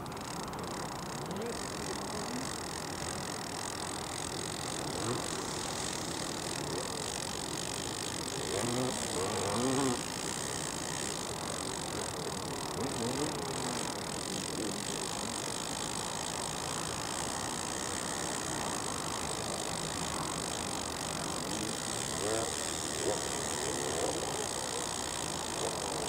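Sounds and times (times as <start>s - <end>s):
lakeside background hiss: 0.0s - 26.0s.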